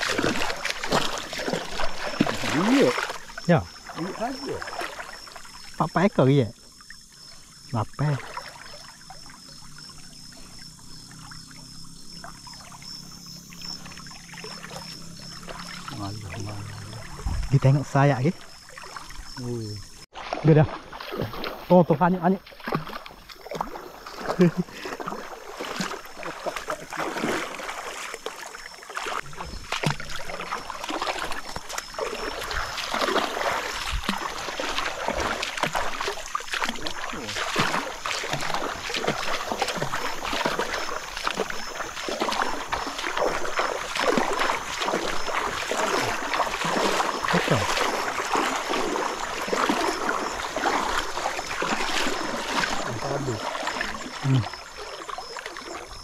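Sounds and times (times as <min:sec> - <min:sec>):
river water splashing: 0:00.0 - 0:56.0.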